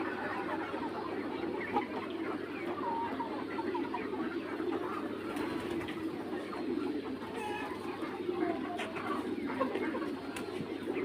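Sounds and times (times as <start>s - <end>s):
chickens calling: 0.0s - 11.0s
chicks peeping: 0.0s - 11.0s.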